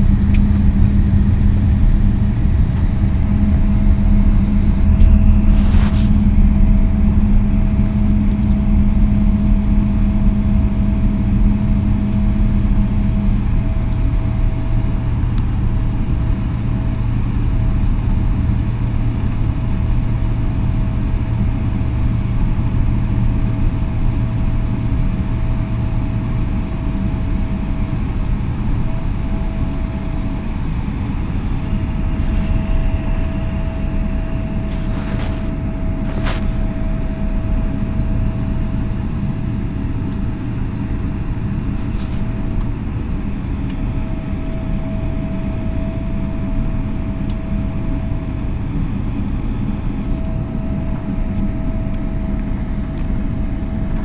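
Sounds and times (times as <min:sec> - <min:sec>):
faint steady whine: 0:00.0 - 0:54.0
jet engine rumble: 0:00.0 - 0:54.0.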